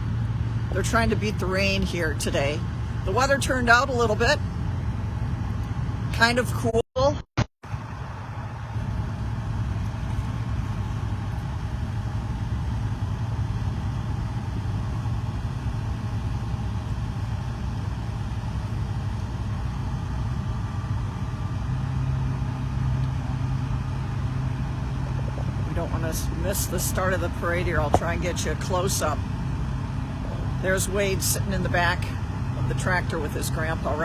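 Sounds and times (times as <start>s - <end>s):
tractor and truck engines idling: 0.0s - 6.7s, 7.7s - 34.0s.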